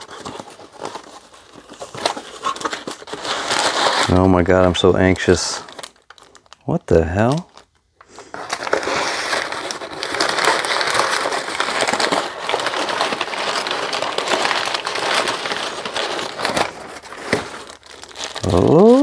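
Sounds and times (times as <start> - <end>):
packing paper rustling: 0.0 - 19.0
plastic bag crinkling: 0.0 - 19.0.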